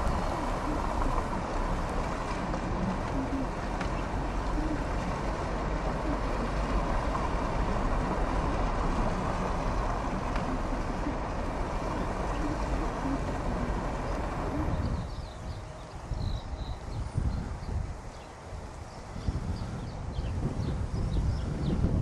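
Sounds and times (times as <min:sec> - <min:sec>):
wind blowing across microphone: 0:00.0 - 0:22.0.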